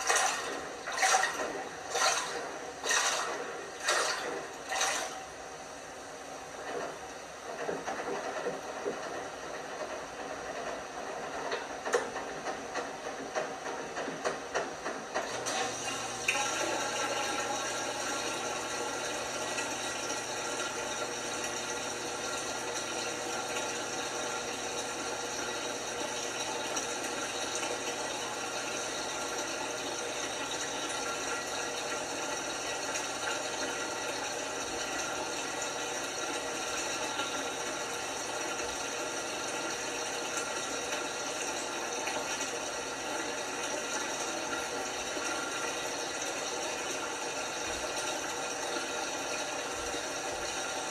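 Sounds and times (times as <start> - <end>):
water rushing in washing machine: 0.0 - 50.9.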